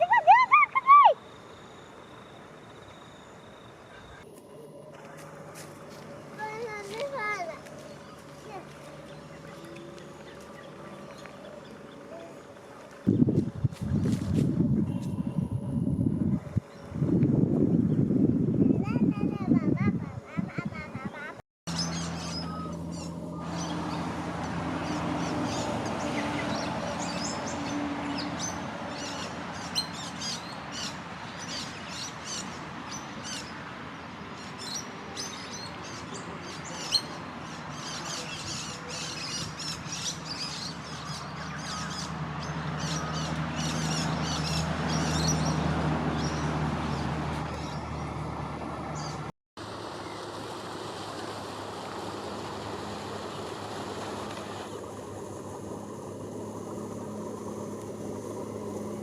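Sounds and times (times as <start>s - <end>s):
birds chirping: 0.0s - 15.6s, 16.3s - 49.3s
low engine hum: 0.0s - 59.0s
steady outdoor hiss: 0.0s - 59.0s.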